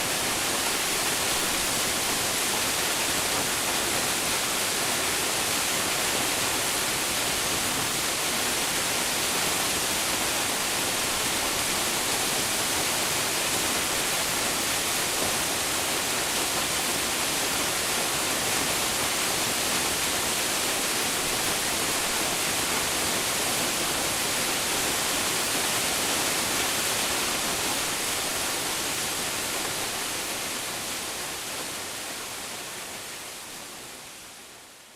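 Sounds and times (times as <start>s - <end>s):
waterfall crashing: 0.0s - 33.4s.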